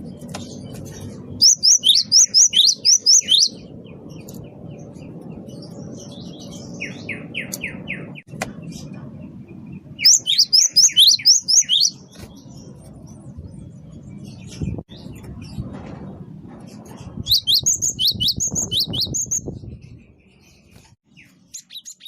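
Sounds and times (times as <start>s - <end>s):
low background rumble: 0.0s - 21.6s.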